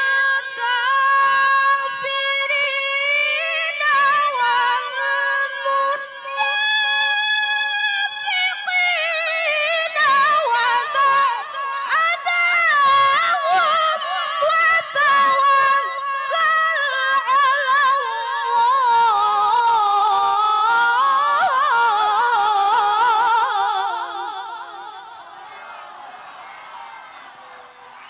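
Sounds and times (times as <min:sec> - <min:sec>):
woman reciting melodically: 0:00.0 - 0:25.5.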